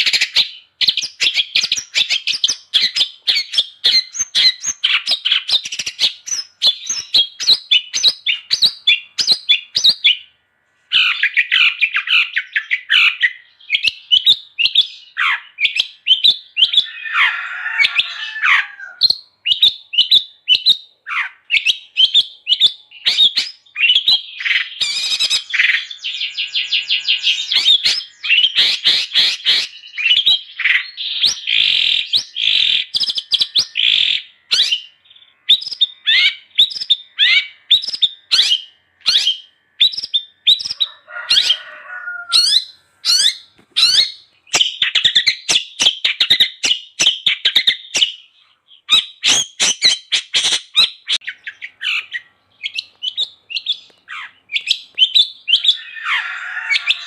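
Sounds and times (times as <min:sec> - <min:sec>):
bird singing high chirps and trills: 0:00.0 - 0:57.0.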